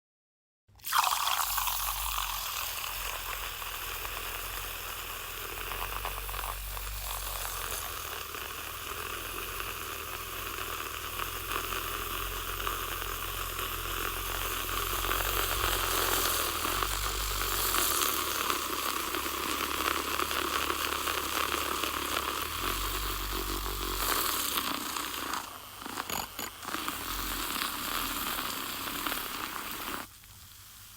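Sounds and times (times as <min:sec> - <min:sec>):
milk frother hissing: 0:00.7 - 0:30.9.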